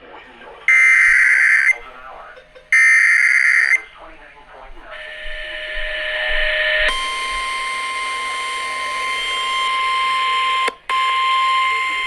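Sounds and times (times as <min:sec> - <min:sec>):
radio static: 0:00.0 - 0:12.0
buzzy alarm tone: 0:00.6 - 0:12.0.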